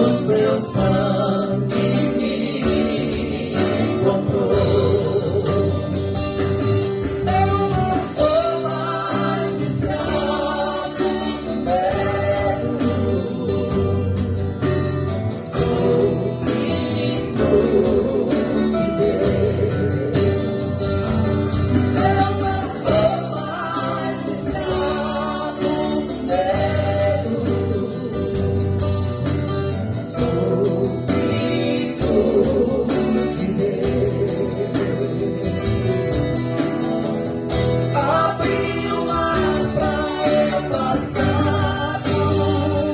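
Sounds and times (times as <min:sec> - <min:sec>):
guitar accompaniment: 0:00.0 - 0:42.9
live gospel band with singing: 0:00.0 - 0:42.9.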